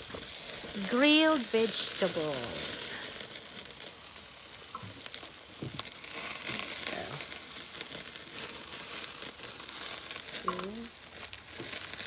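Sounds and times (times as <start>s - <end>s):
vegetables sizzling on a grill: 0.0s - 12.0s.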